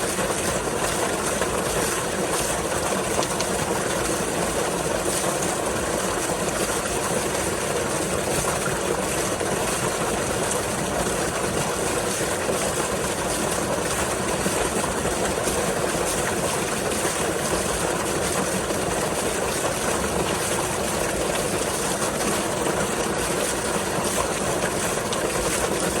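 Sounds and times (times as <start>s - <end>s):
water pouring from outfall: 0.0s - 26.0s.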